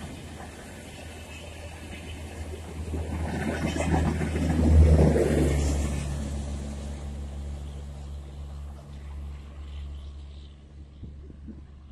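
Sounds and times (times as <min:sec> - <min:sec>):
train rumble and wheel clatter: 0:00.0 - 0:11.9.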